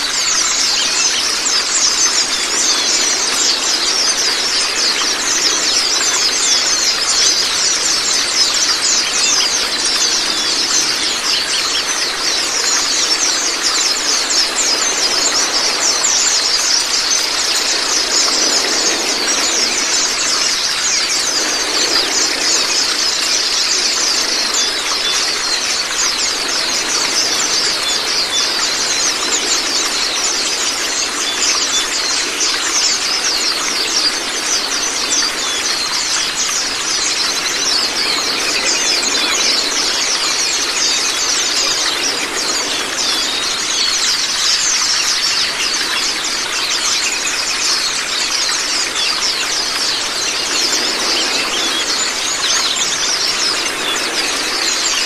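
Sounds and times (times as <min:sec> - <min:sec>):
birds chirping and trilling: 0:00.0 - 0:55.0
running water: 0:00.0 - 0:55.0.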